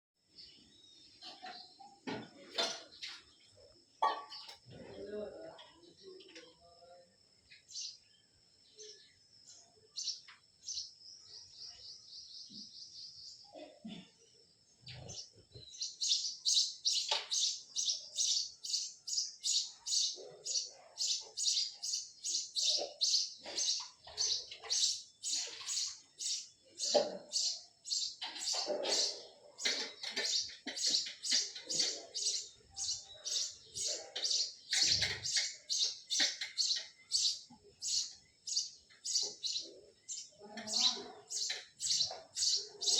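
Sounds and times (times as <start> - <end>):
small birds chirping: 0.2 - 42.9.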